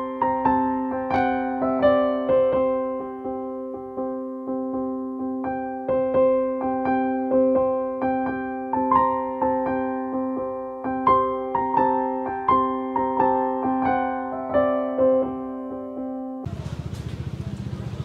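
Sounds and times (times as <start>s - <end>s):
gentle keyboard music: 0.0s - 16.5s.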